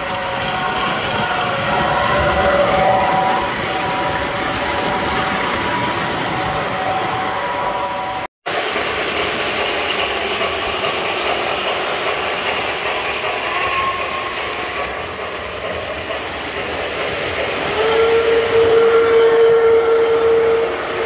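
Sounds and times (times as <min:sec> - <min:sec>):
model trains rattling on track: 0:00.0 - 0:21.0.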